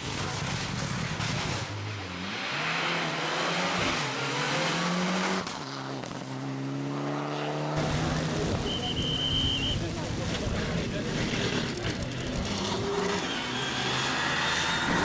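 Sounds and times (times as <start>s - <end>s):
car engine accelerating hard: 0.2s - 15.0s.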